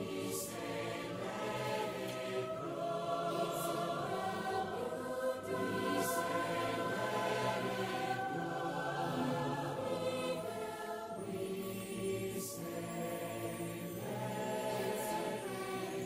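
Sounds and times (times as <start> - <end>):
choir singing chords: 0.0 - 16.0.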